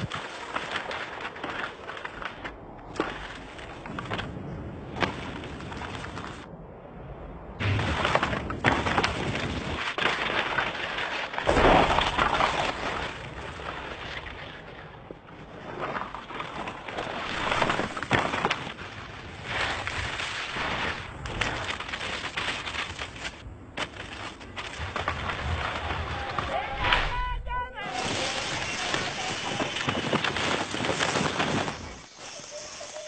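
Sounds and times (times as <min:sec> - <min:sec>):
gravel hissing and scraping: 0:00.0 - 0:06.5, 0:07.6 - 0:27.2, 0:27.8 - 0:33.0.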